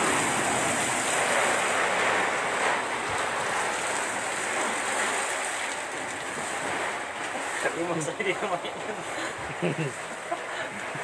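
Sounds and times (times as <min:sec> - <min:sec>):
fire hoses spraying water: 0:00.0 - 0:11.0.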